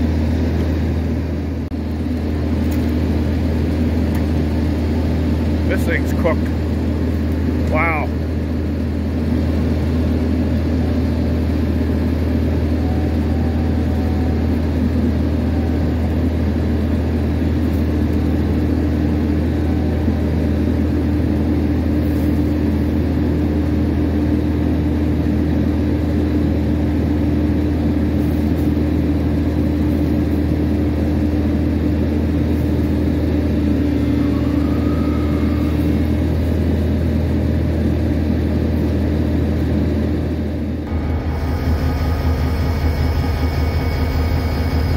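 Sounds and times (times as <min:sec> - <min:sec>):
diesel engine running: 0:00.0 - 0:44.9
steady hum: 0:00.0 - 0:44.9.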